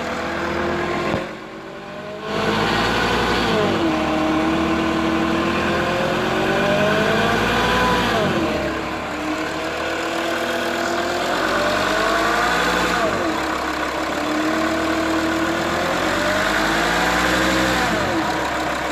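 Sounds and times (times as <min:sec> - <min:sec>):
diesel engine revving: 0:00.0 - 0:18.9
engine hum: 0:00.0 - 0:18.9.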